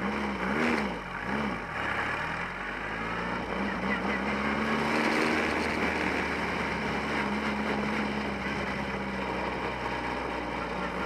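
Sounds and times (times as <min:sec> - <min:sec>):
race car engine running: 0:00.0 - 0:11.0.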